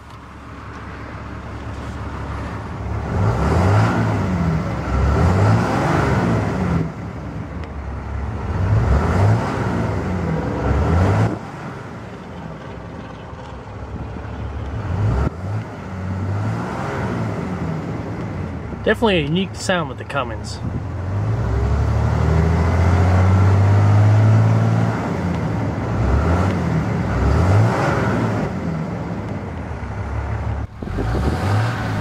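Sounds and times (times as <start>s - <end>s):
diesel engine revving: 0.0s - 32.0s.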